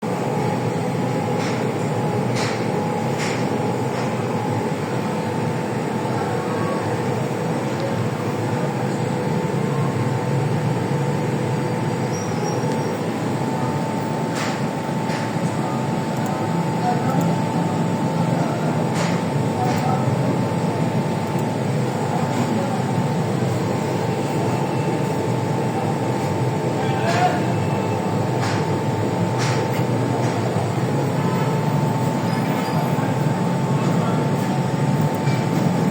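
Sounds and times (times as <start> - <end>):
laser cutter machinery hum: 0.0 - 35.9.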